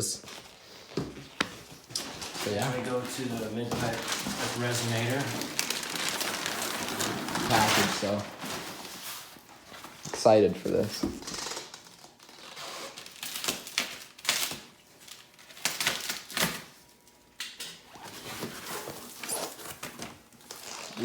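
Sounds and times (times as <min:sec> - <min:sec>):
packaging rustling and tearing: 0:01.9 - 0:16.8, 0:17.8 - 0:21.0.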